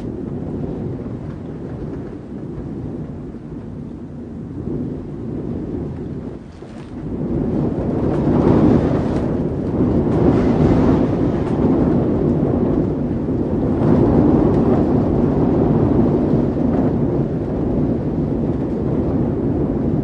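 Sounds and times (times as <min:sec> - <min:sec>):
wind rumbling in gusts: 0:00.0 - 0:20.0.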